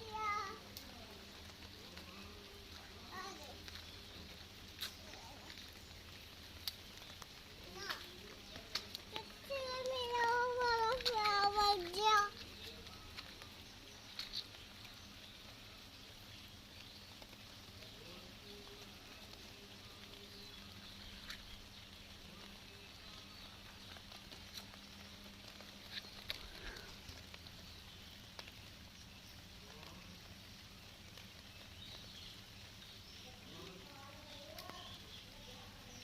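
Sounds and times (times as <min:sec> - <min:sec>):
light rain hiss: 0:00.0 - 0:36.0.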